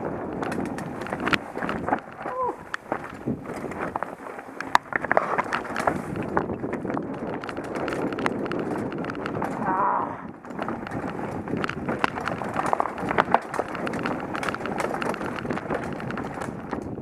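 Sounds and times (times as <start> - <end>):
bike clattering clicks and knocks: 0.0 - 17.0
bike tyres crunching over stones: 0.0 - 17.0.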